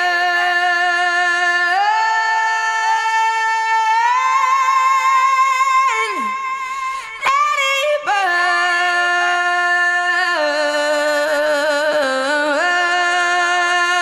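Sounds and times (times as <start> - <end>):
woman singing wordless notes: 0.0 - 14.0.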